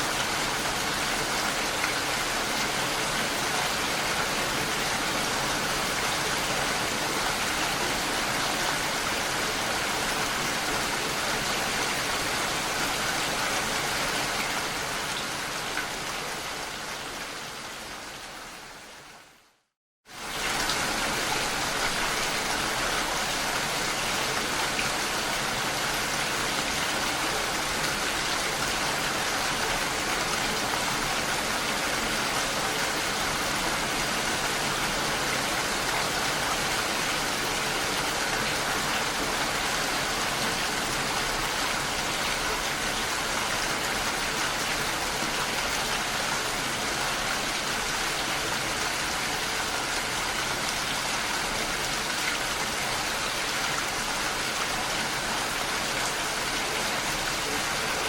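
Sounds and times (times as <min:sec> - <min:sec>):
dense rain: 0:00.0 - 0:58.0.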